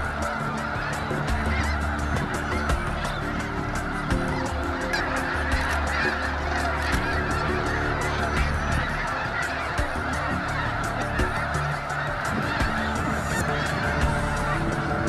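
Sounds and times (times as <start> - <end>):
geese flock honking: 0.0 - 15.0.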